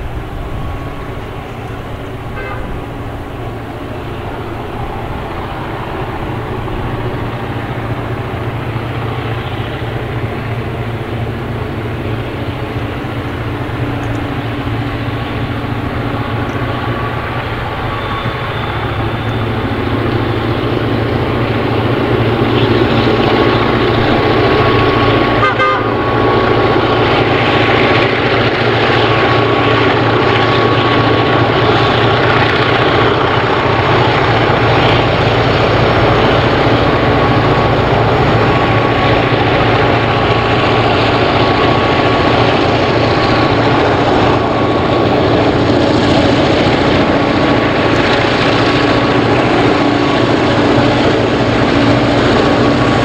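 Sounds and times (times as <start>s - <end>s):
diesel locomotive engines running: 0.0s - 53.0s.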